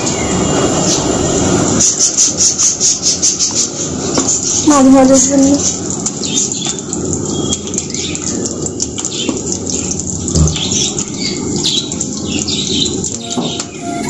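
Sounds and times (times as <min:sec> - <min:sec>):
small birds chirping: 0:01.8 - 0:14.0.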